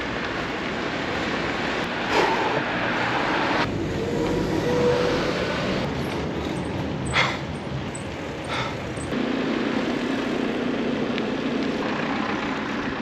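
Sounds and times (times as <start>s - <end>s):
faint vehicle whine: 0.0s - 13.0s
passing vehicles rushing: 0.0s - 13.0s.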